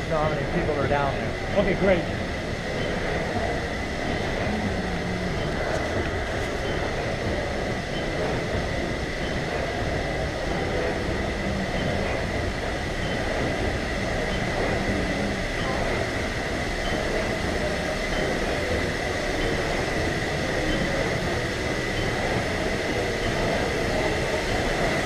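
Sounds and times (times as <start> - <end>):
constant high hum: 0.0 - 25.0
steam machinery running: 0.0 - 25.0.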